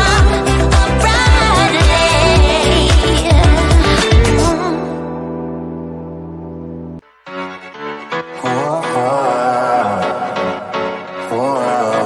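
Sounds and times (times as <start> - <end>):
pop music: 0.0 - 5.4, 7.0 - 12.0.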